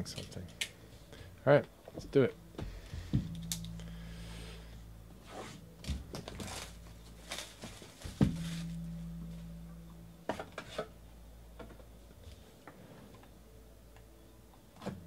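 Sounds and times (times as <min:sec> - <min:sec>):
low hum: 0:00.8 - 0:14.5.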